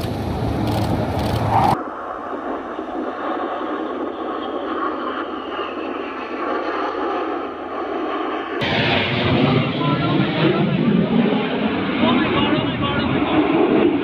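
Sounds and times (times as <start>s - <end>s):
jets flying overhead: 0.0s - 14.0s.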